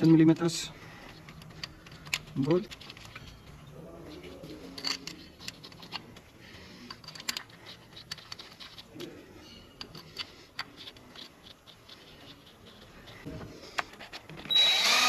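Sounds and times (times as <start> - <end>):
tools and bolts clicking on metal: 0.0 - 13.2.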